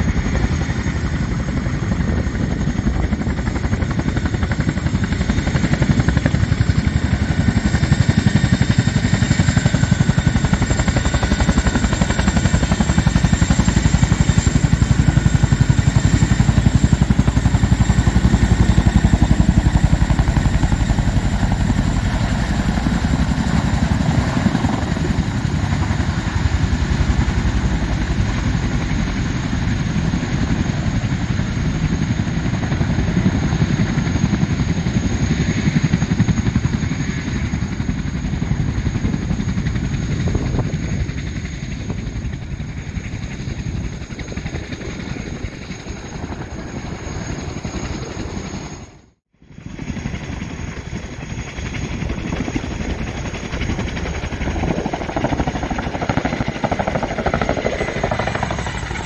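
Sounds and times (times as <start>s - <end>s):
turbine engine whine: 0.0s - 59.0s.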